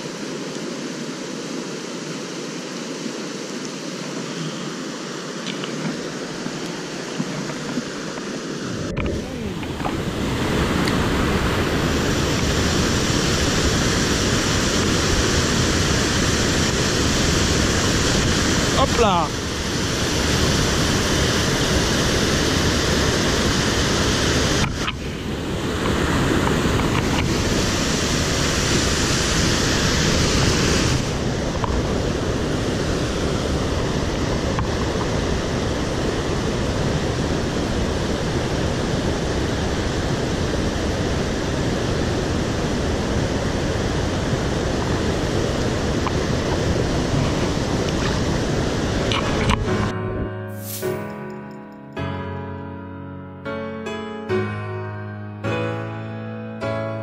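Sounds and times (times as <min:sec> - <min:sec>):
stream rushing over waterfall: 0:00.0 - 0:49.9.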